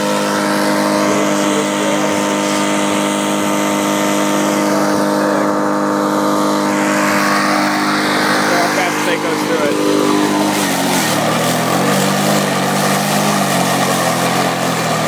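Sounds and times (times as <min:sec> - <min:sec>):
push mower engine cutting grass: 0:00.0 - 0:15.0.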